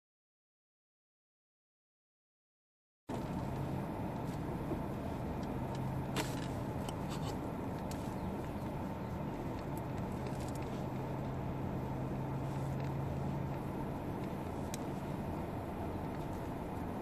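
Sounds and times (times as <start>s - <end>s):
car engine hum: 3.1s - 17.0s
tyres rumbling on gravel: 3.1s - 17.0s.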